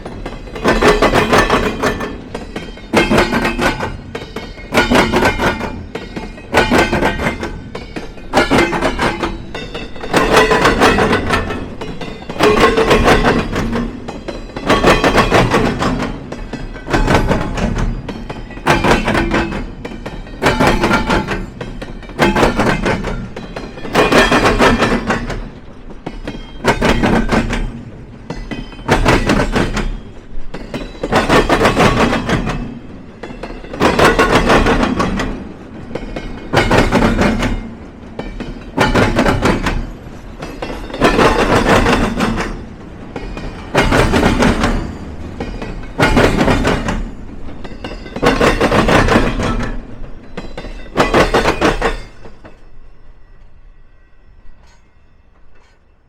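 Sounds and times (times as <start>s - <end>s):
train wheels clattering over crossing: 0.0s - 52.9s
train rumble: 0.0s - 56.0s.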